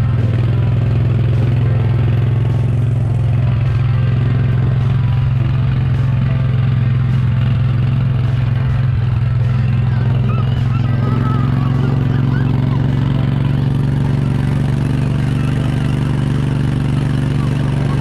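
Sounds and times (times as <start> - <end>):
small engine droning: 0.0 - 18.0.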